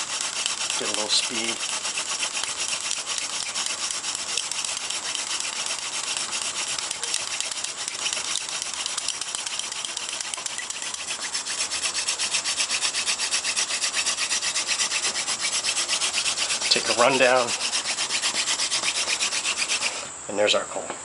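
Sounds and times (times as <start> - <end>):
wooden spindle rasping on board: 0.0 - 20.1.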